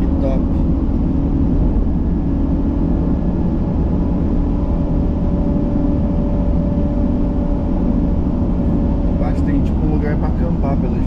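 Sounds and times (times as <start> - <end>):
vehicle engine and tyre rumble: 0.0 - 11.0.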